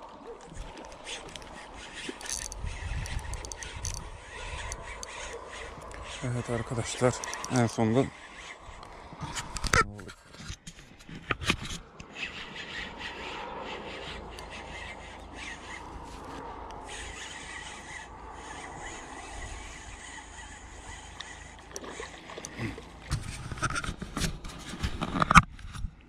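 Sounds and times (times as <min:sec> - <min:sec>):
spinning reel grinding: 0:00.6 - 0:09.7, 0:12.1 - 0:23.9.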